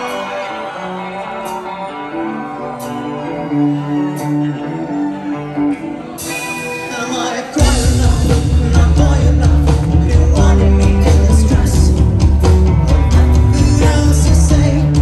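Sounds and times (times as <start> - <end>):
electric guitar: 0.0 - 15.0
live rock band playing: 0.0 - 15.0.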